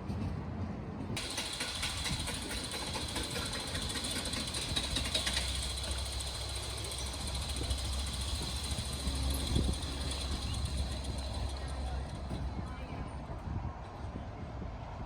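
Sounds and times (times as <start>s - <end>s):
engine rumble: 0.0s - 14.6s.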